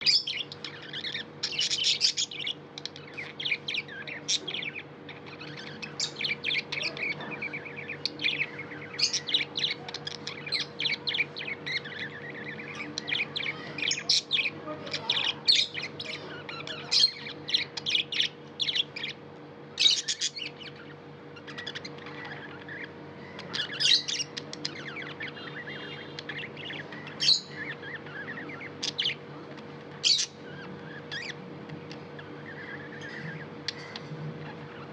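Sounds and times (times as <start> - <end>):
budgies chirping: 0.0 - 34.9
steady low hum: 0.0 - 34.9.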